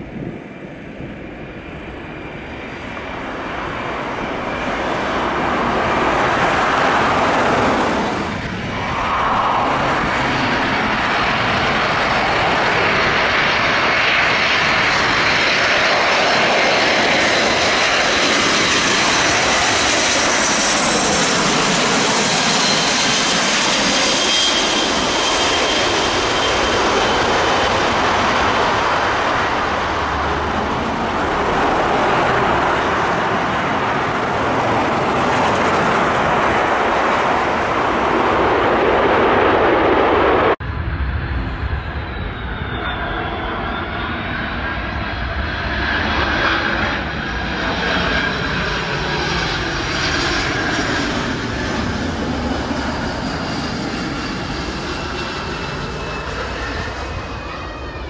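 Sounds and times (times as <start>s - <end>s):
jet flying low overhead: 0.0s - 58.0s.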